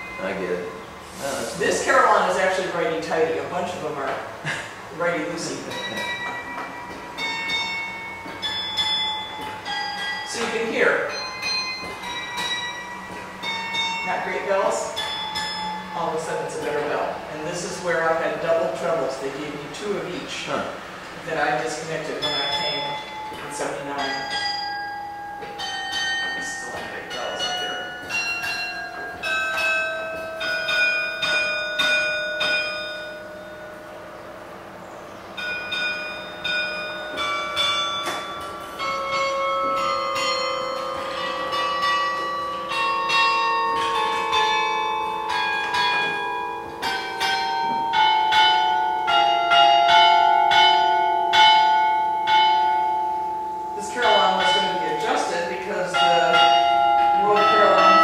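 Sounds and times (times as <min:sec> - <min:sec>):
carillon bells ringing: 0:00.0 - 0:58.0.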